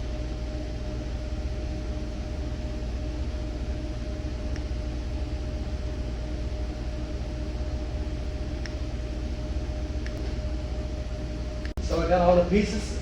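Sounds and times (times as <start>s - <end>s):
background rumble and hum: 0.0s - 13.0s.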